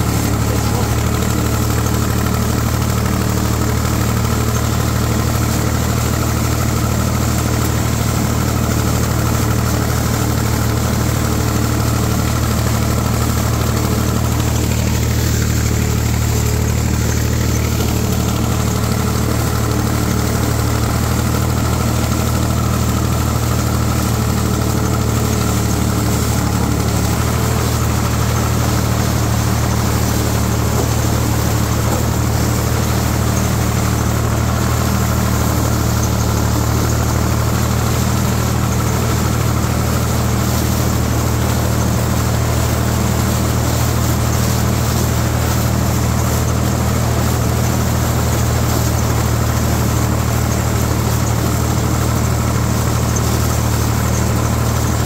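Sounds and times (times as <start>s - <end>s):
corn picker machinery: 0.0s - 55.0s
tractor diesel engine under load: 0.0s - 55.0s.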